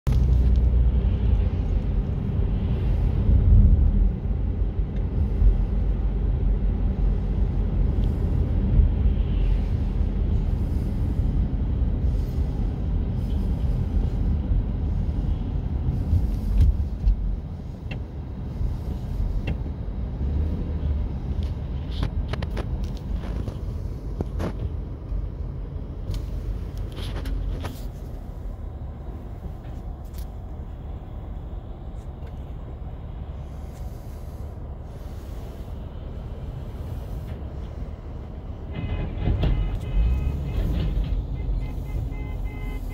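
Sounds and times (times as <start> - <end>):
vehicle engines and road noise: 0.0 - 42.9.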